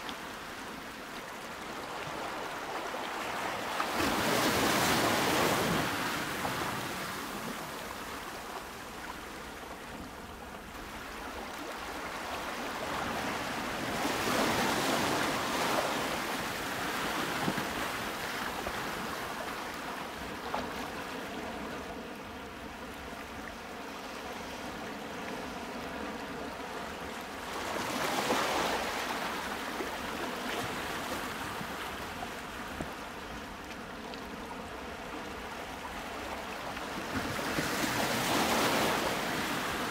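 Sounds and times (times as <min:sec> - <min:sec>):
ocean surf washing in and out: 0:00.0 - 0:39.9.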